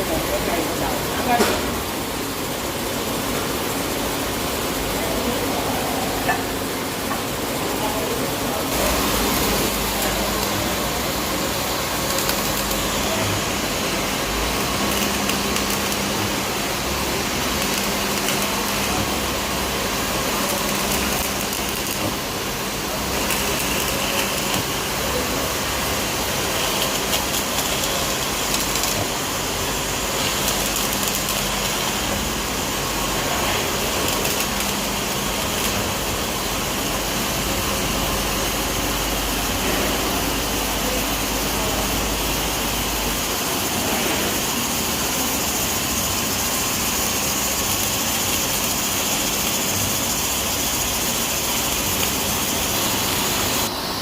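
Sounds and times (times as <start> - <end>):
arc welding crackling hiss: 0.0 - 54.0
welding machine hum: 0.0 - 54.0.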